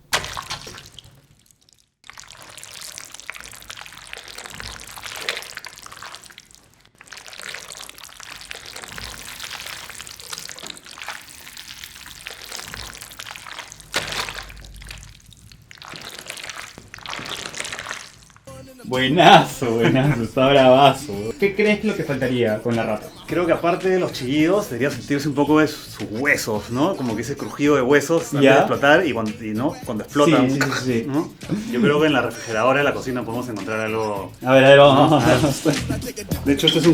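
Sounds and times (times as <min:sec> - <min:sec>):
wet squelching of spaghetti: 0:00.0 - 0:36.9.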